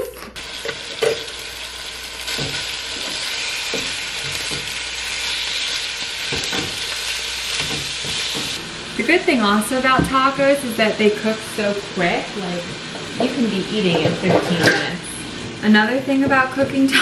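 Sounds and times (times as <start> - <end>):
meat sizzling in a frying pan: 0.4 - 14.3.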